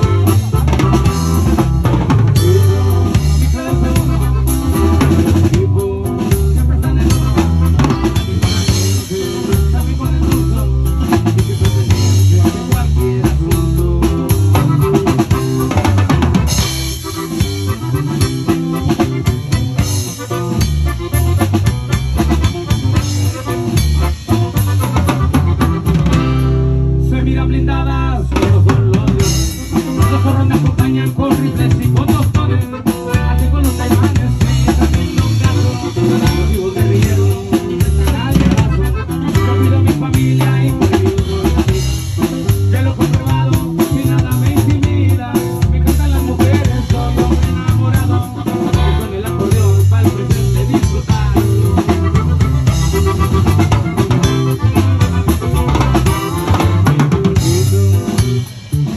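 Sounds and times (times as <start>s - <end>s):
band playing: 0.0s - 58.9s.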